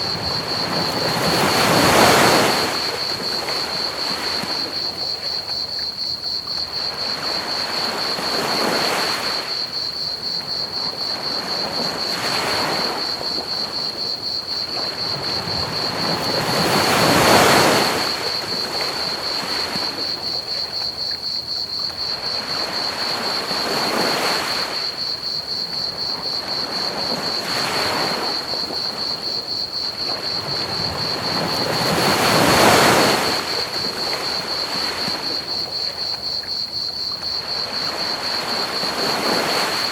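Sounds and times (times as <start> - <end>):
ocean waves breaking: 0.0 - 5.8, 10.4 - 20.7, 22.0 - 39.9
crickets trilling: 0.0 - 39.9.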